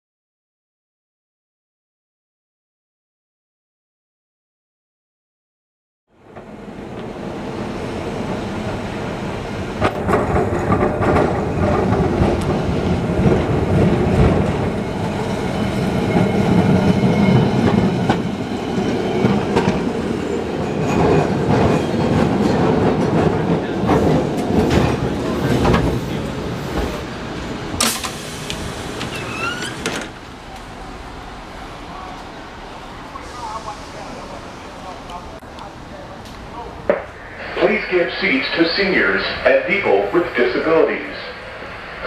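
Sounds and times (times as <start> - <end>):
streetcar rumbling on rails: 6.1 - 42.0.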